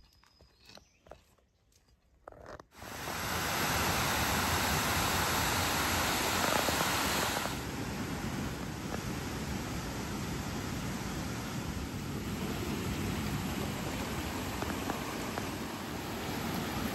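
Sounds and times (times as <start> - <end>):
waterfall rushing: 2.8 - 16.9.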